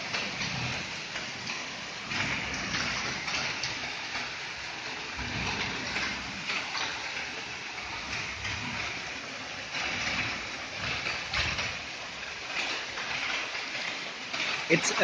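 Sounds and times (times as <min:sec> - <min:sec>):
heavy rain: 0:00.0 - 0:15.0
water streaming down concrete steps: 0:00.0 - 0:15.0.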